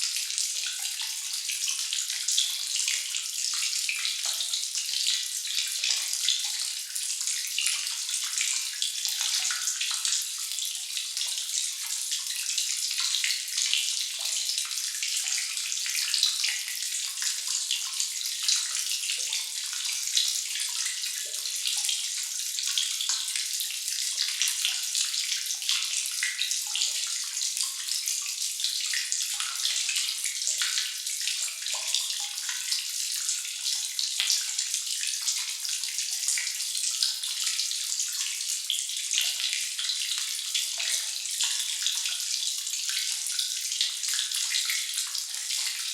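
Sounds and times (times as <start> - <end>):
water dripping: 0.0 - 45.9.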